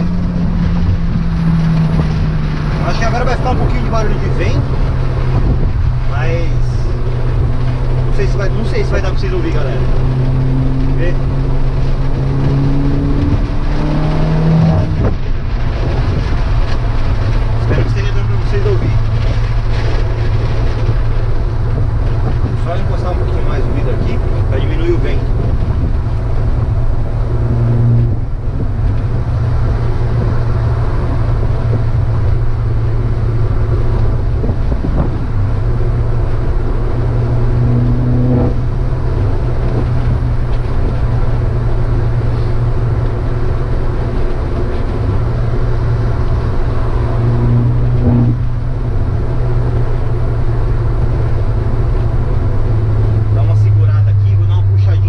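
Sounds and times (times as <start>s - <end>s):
car engine droning while driving: 0.0s - 55.0s.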